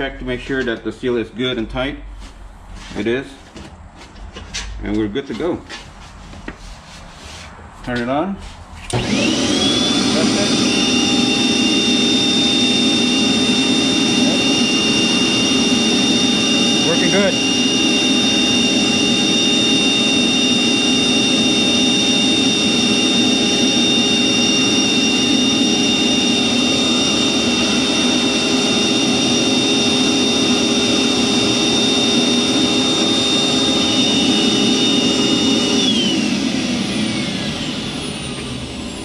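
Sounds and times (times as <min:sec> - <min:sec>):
central vacuum unit whining: 0:00.0 - 0:39.0.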